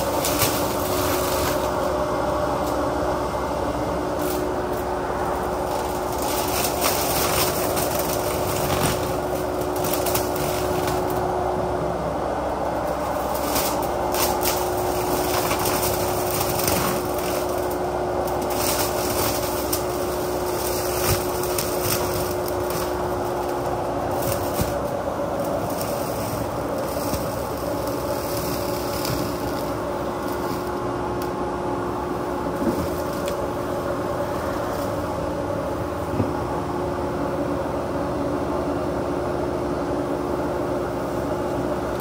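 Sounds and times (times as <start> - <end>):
excavator engine and hydraulic drone: 0.0 - 42.0.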